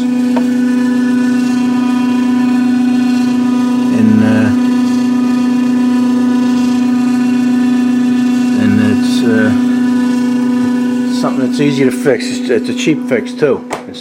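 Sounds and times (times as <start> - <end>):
refrigerator fan motor humming: 0.0 - 14.0.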